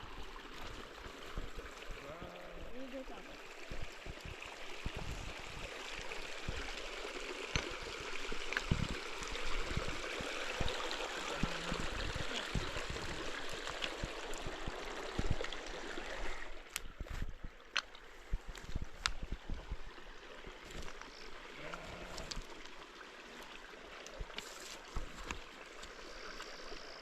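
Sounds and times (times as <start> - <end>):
water running: 0.0 - 27.0.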